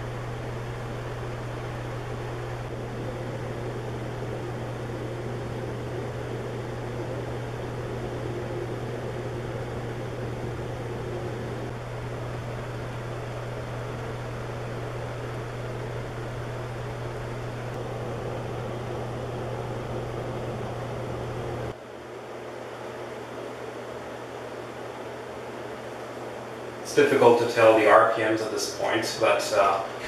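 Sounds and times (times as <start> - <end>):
ceiling fan motor hum: 0.0 - 30.0.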